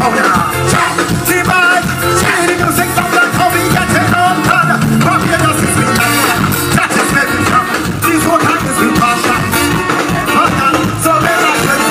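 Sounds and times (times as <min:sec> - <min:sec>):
live soca band over loudspeakers: 0:00.0 - 0:11.9
person singing: 0:00.0 - 0:11.9.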